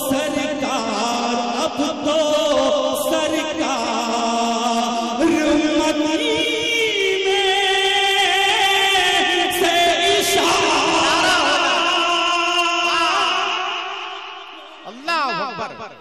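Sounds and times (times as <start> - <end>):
man singing through microphone: 0.0 - 16.0.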